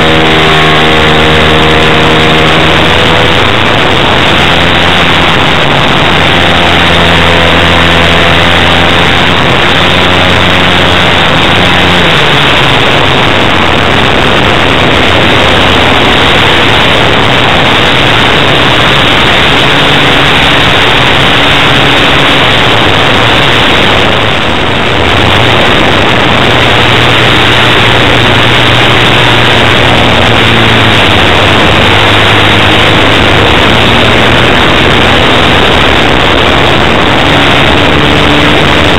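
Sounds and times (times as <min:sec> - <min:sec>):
model aircraft engine running: 0:00.0 - 0:38.9
wind rush: 0:00.0 - 0:38.9.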